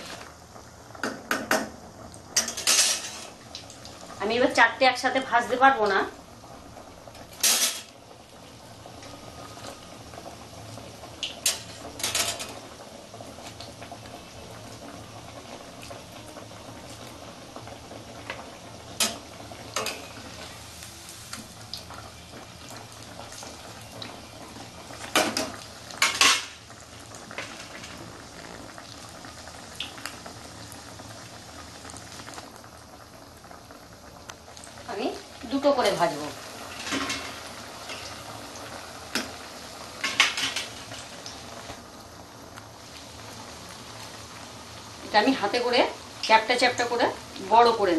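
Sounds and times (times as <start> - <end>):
fritters sizzling in hot oil: 0.0 - 47.9.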